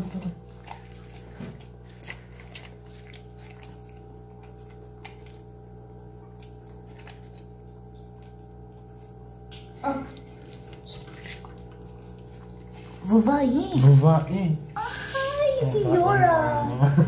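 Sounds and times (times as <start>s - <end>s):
dog licking puppy: 0.0s - 16.8s
low background hum: 0.0s - 17.0s.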